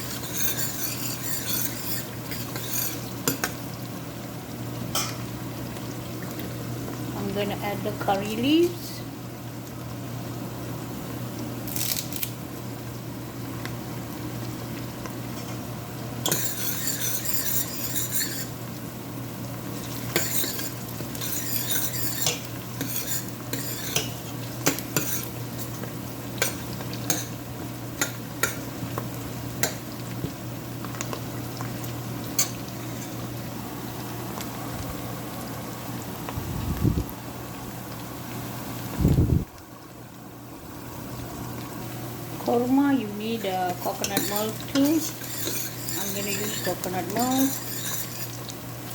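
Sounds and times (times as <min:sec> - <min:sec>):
onions sizzling in oil: 0:00.0 - 0:48.9.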